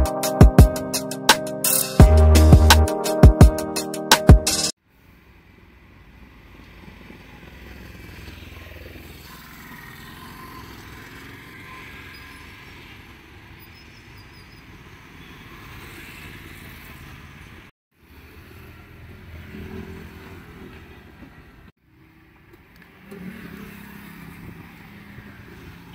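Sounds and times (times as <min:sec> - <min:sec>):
roadside traffic: 0:00.0 - 0:25.9.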